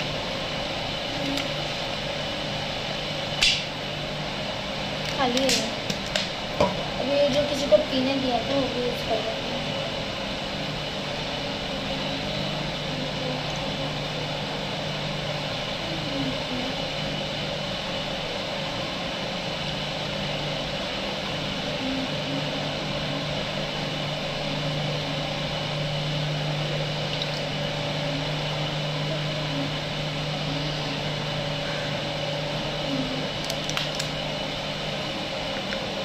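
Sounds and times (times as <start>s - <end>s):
appliance humming: 0.0s - 36.0s.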